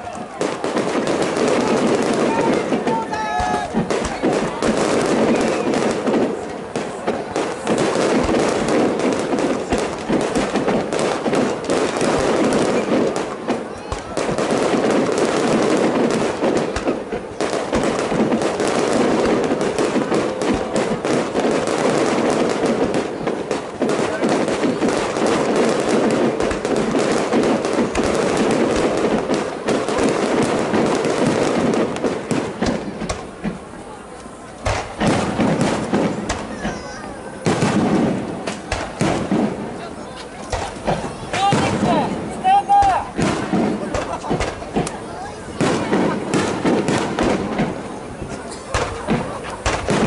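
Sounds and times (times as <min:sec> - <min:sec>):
fireworks bursting: 0:00.0 - 0:50.0.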